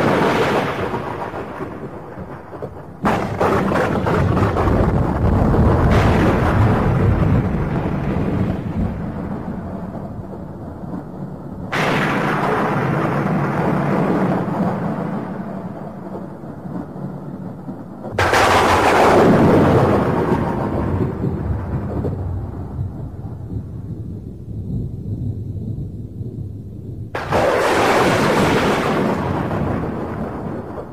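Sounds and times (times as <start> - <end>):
thunder cracks and rumble: 0.0 - 30.9.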